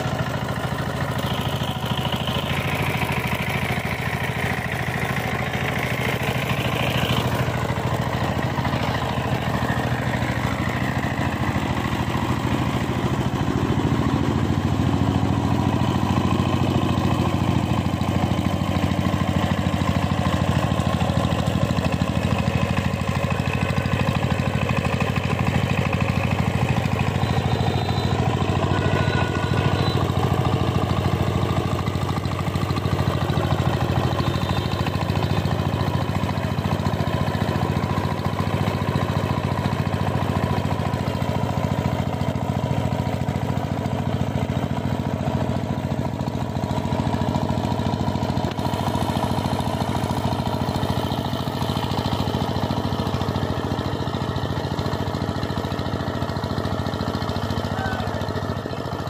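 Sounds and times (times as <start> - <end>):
diesel tiller engine running: 0.0 - 59.0.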